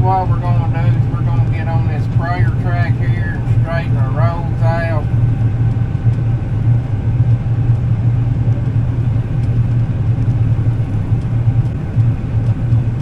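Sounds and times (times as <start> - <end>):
combine harvester engine drone: 0.0 - 13.0
faint steady whine: 0.0 - 13.0.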